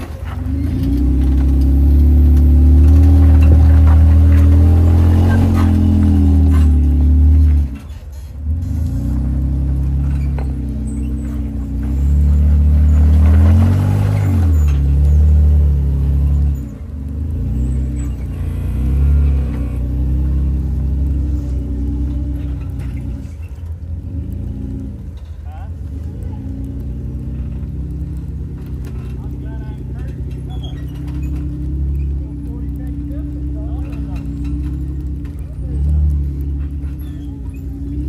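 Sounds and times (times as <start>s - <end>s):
vehicle engine revving: 0.0s - 38.0s.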